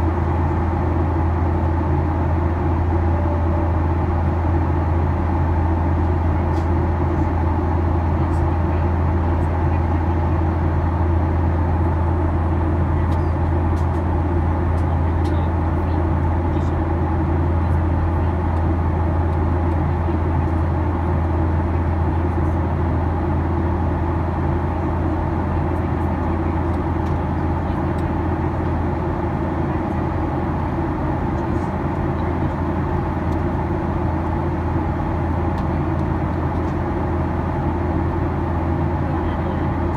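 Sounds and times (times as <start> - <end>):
turbofan engine hum: 0.0 - 39.9.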